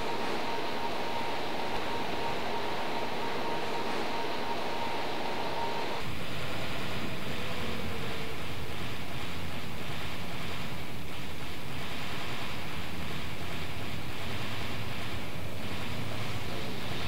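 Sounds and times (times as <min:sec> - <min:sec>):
low hum: 0:00.0 - 0:17.0
steady rushing noise: 0:00.0 - 0:17.0.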